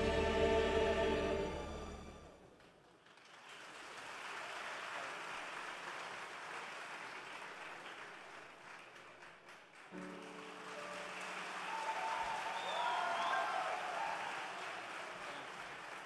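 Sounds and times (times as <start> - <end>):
audience applauding: 2.5 - 16.0.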